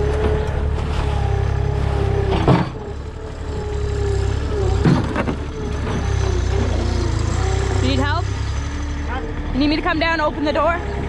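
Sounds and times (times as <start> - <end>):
machinery rumbling and humming: 0.0 - 11.0.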